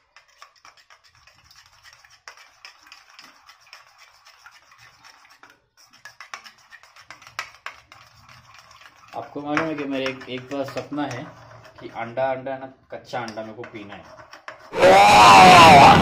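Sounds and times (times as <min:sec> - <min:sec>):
spoon beating egg in bowl: 0:00.0 - 0:14.8.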